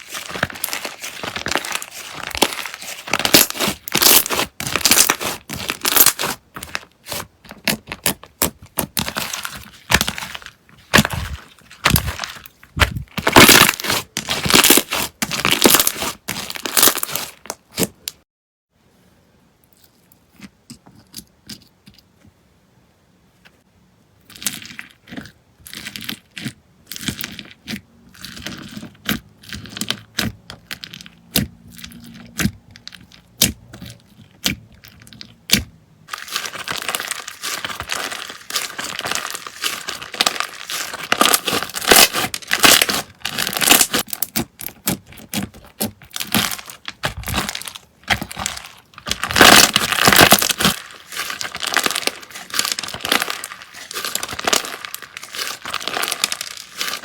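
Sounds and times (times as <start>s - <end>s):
slime popping and crackling: 0.0s - 18.2s, 24.3s - 57.0s.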